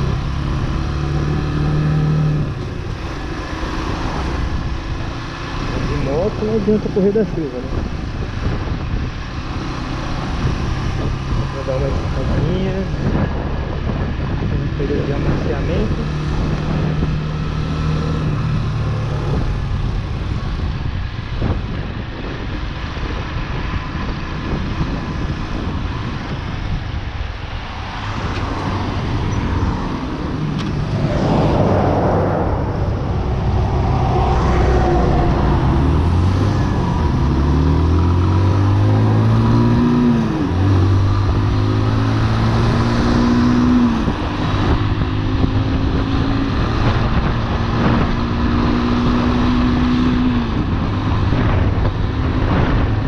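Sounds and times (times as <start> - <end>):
motorcycle engine accelerating: 0.0 - 22.2, 28.0 - 53.0
wind rush while riding: 0.0 - 53.0.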